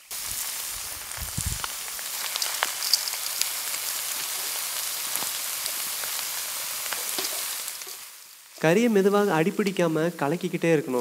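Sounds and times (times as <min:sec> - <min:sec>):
crackles and pops: 0:00.0 - 0:08.8
meat sizzling in a pan: 0:00.0 - 0:11.0.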